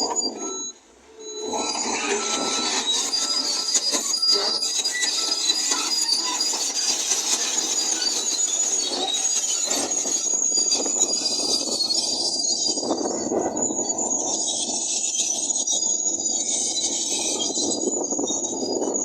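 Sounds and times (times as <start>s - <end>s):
metallic squeal of steel tracks: 0.0s - 19.0s.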